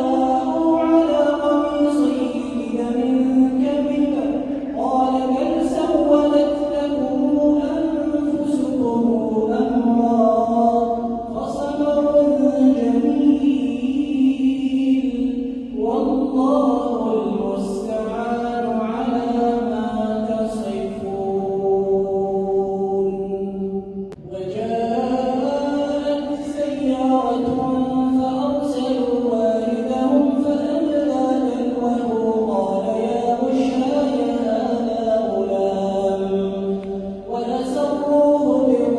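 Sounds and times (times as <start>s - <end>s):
man reciting melodically: 0.0s - 38.9s.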